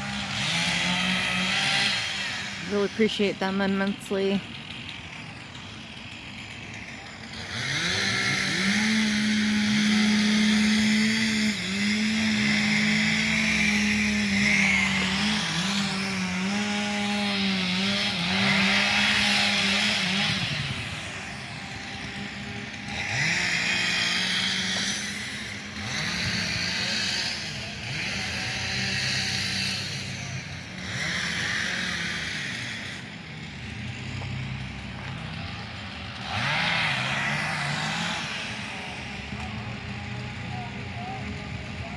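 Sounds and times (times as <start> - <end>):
chainsaw revving while cutting: 0.0 - 41.9.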